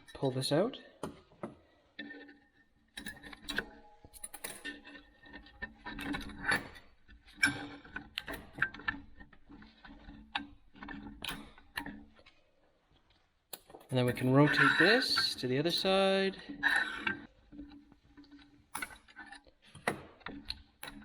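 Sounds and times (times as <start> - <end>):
metal parts clinking and rattling: 2.0 - 12.4, 13.6 - 21.0.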